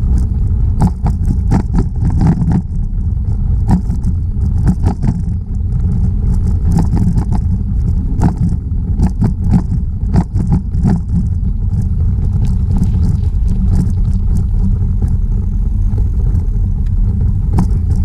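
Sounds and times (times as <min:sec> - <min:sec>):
bicycle tyres on pavement: 0:00.0 - 0:18.0
wind buffeting microphone: 0:00.0 - 0:18.0
sharp knocks and rattles: 0:00.2 - 0:15.3, 0:16.3 - 0:18.0.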